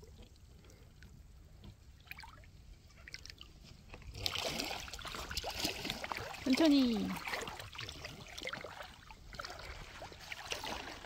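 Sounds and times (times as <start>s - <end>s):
faint water drips: 0.0s - 11.0s
water sloshing from wading: 0.0s - 11.0s.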